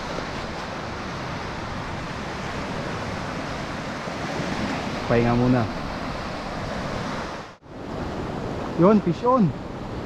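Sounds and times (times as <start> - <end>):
surf washing over rocks: 0.0 - 10.0
wind: 0.0 - 10.0.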